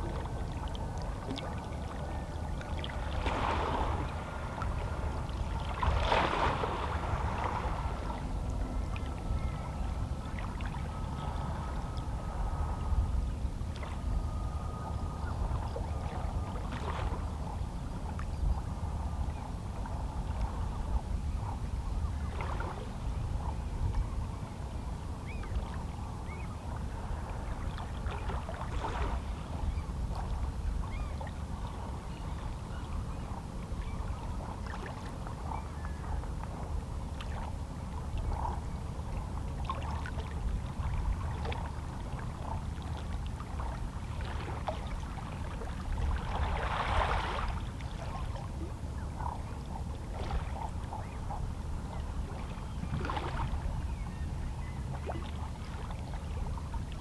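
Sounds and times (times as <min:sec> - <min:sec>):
low wash of water: 0:00.0 - 0:57.0.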